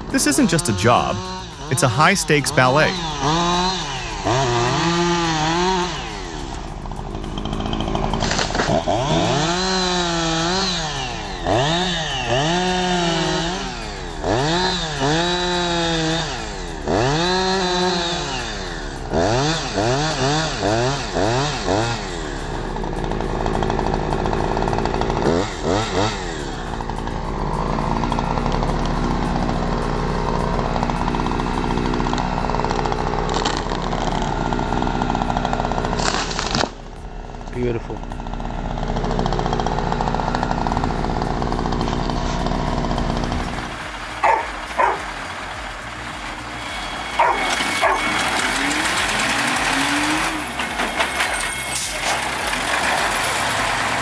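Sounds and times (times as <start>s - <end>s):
chainsaw revving: 0.0s - 37.1s, 37.7s - 54.0s.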